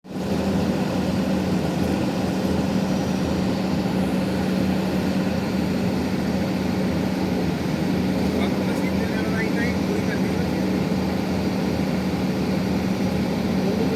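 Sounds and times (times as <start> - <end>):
heavy diesel engine running: 0.0 - 13.9.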